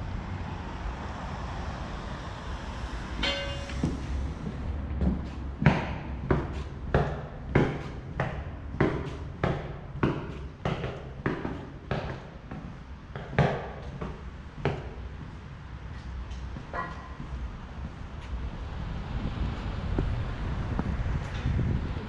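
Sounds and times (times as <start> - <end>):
city noise: 0.0 - 22.0
wind: 0.0 - 22.0
footsteps on concrete: 3.7 - 21.4.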